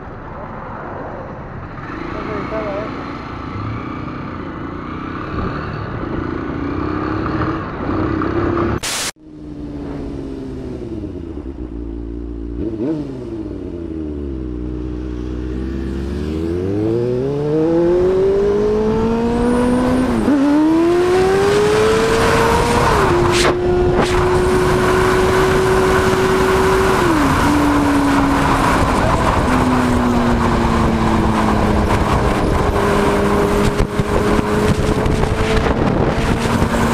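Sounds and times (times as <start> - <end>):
rushing wind: 0.0 - 36.9
motorcycle engine accelerating: 1.8 - 36.9.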